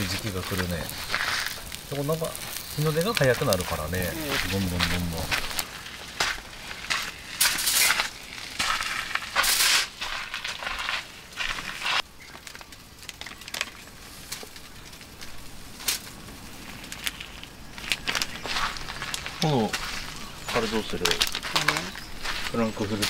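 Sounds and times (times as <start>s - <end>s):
foil and plastic packaging crinkling: 0.0s - 23.0s.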